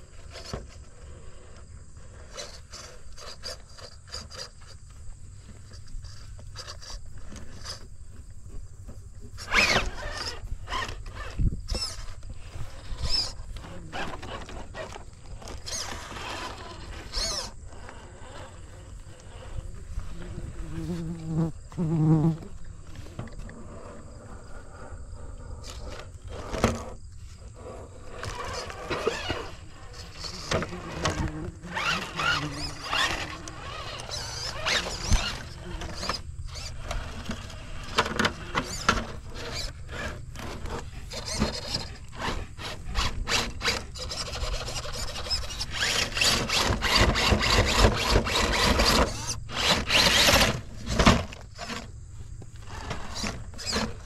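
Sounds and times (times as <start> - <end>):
tyres scrabbling: 0.0 - 24.8, 25.6 - 54.0
rc car motor whine: 0.0 - 54.0.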